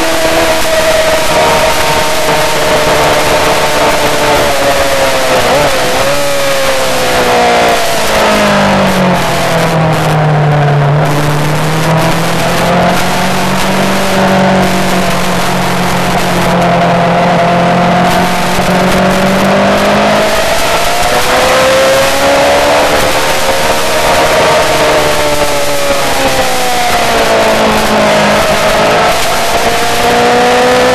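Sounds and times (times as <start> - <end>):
motorcycle engine running hard: 0.0 - 30.9.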